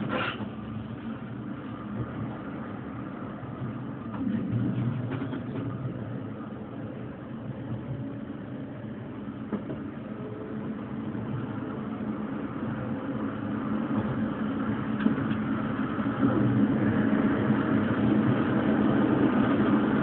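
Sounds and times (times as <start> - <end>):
railcar wheels rumbling on rails: 0.0 - 20.0.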